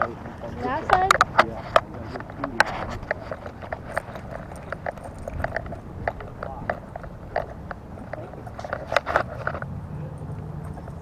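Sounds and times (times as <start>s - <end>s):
dog claws clicking on hard floor: 0.0s - 11.0s.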